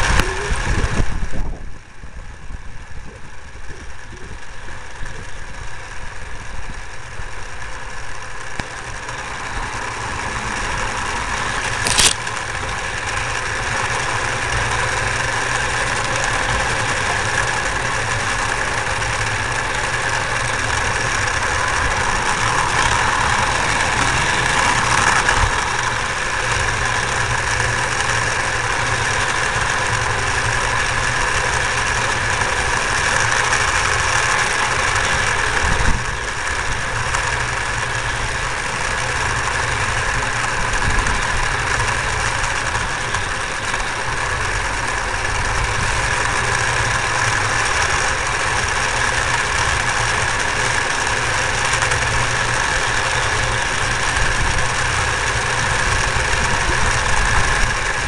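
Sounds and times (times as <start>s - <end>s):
continuous steam hiss: 0.0s - 58.0s
model steam locomotive rumble: 0.0s - 58.0s.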